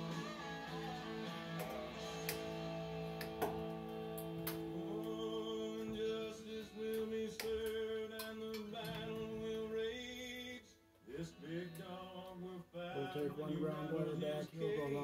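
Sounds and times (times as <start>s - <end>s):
country song on radio: 0.0s - 15.0s.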